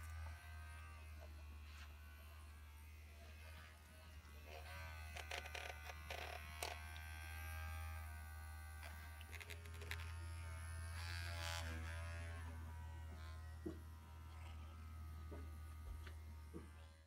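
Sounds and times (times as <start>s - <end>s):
electric massager buzzing: 0.0s - 17.0s.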